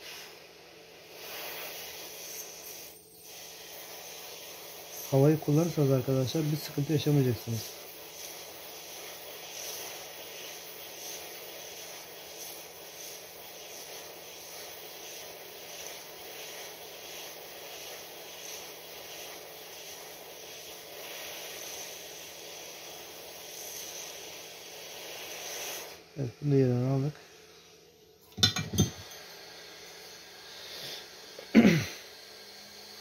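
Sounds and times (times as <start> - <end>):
hot air nozzle hissing: 0.0 - 33.0.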